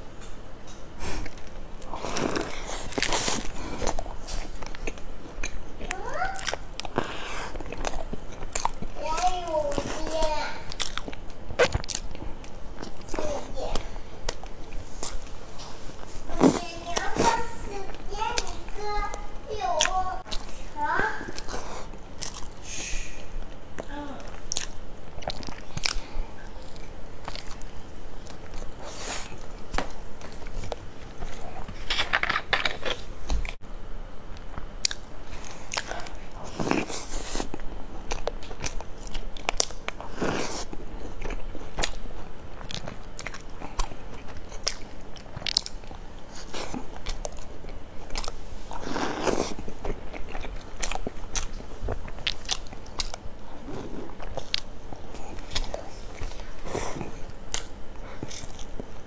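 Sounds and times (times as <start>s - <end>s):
person chewing crunchy food: 0.9s - 33.6s, 34.2s - 59.0s.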